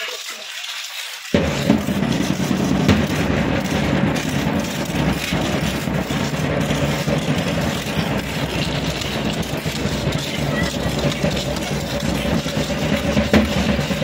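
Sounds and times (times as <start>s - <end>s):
drumming: 1.4s - 14.0s.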